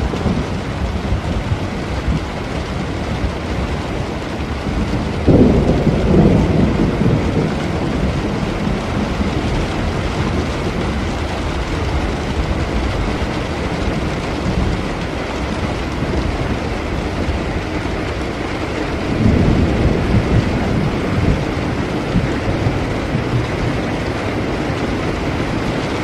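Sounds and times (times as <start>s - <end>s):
low thunder rumble: 0.0s - 26.0s
steady rain falling: 0.0s - 26.0s.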